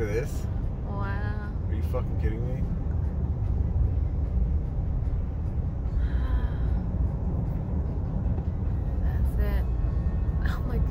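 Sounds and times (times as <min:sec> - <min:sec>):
car engine and tyre rumble: 0:00.0 - 0:10.9.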